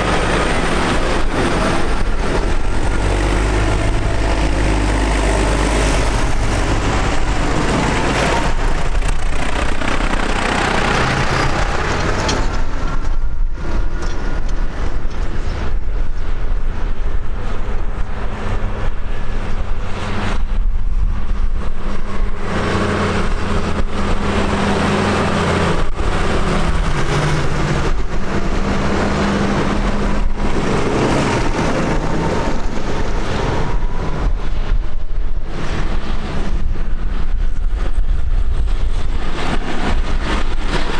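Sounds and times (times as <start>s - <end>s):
tractor engines running: 0.0s - 40.9s.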